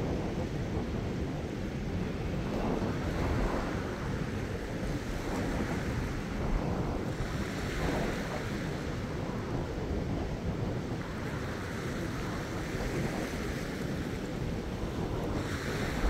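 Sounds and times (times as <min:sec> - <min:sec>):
wind rumble on microphone: 0:00.0 - 0:16.0
waves washing over rocks: 0:02.2 - 0:16.0.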